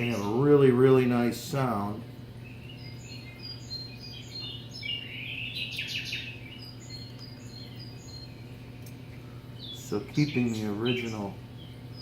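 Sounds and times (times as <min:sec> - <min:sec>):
birds chirping and calling: 0:00.0 - 0:12.0
steady low hum: 0:00.0 - 0:12.0.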